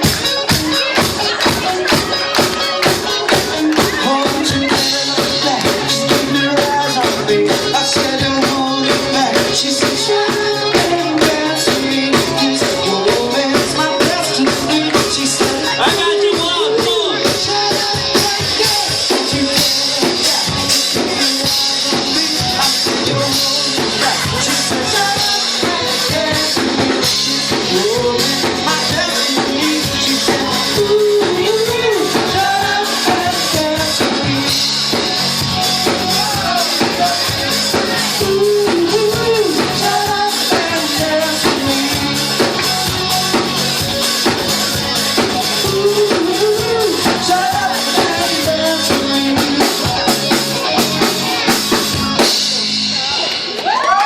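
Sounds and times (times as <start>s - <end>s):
drum kit beat: 0.0s - 54.0s
live rock-pop band playing: 0.0s - 54.0s.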